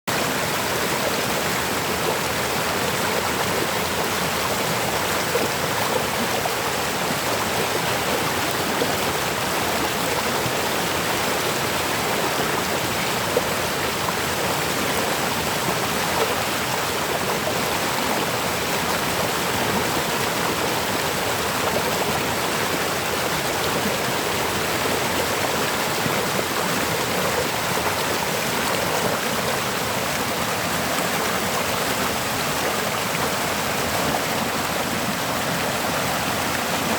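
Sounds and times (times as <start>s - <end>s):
river water flowing and splashing: 0.1s - 36.9s.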